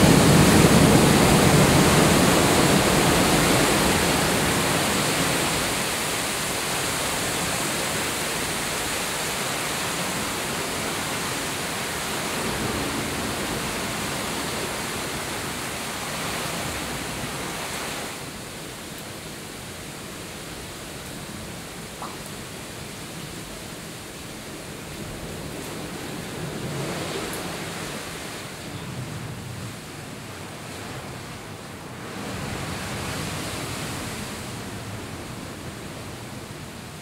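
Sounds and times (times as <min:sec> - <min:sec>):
sea waves breaking over rocks: 0:00.0 - 0:37.0.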